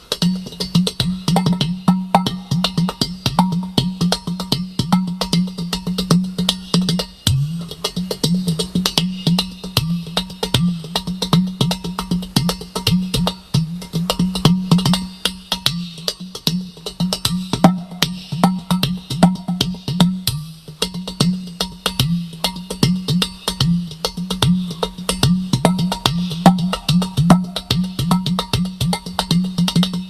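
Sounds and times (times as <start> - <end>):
clay pot drum played by hand: 0.0 - 30.0.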